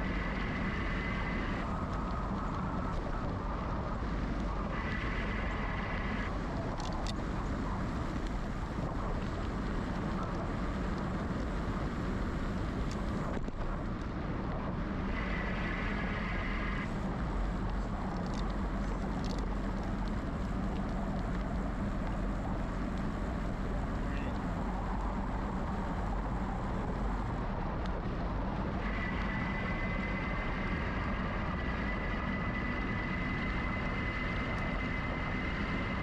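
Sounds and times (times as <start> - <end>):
wind on microphone: 0.0 - 36.0
bike tyres rolling on path: 1.6 - 16.2, 16.8 - 36.0.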